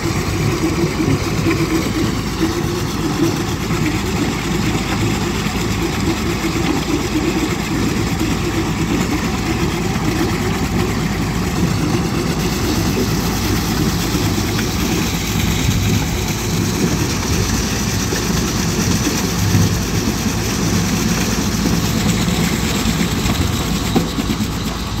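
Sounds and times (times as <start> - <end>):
bucket chopper turning: 0.0 - 25.0
diesel engine running: 0.0 - 25.0.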